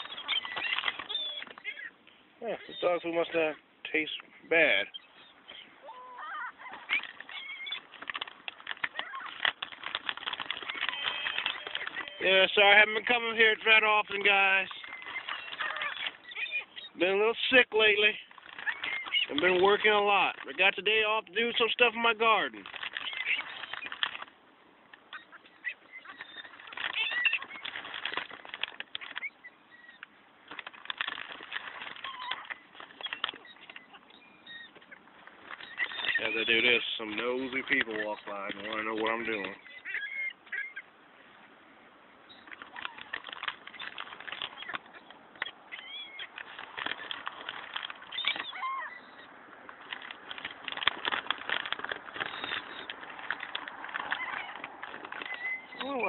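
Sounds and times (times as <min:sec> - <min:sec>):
patter of many short clicks: 0:00.0 - 0:02.2, 0:06.4 - 0:40.9, 0:42.3 - 0:56.0
gulls squawking and calling: 0:00.0 - 0:24.2, 0:25.0 - 0:30.2, 0:31.0 - 0:56.0.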